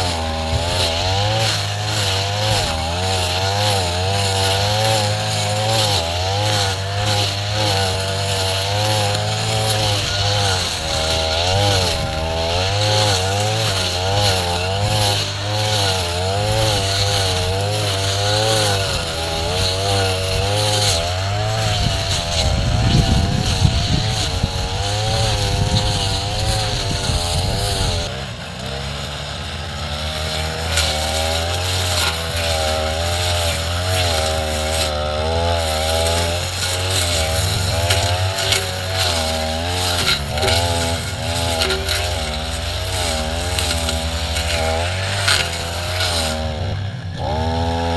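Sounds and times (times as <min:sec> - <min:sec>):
brush cutter cutting grass: 0:00.0 - 0:47.9.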